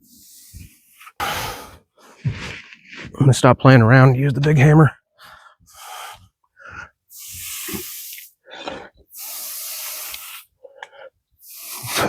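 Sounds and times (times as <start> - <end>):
person breathing hard: 0.0 - 3.1, 5.1 - 12.0.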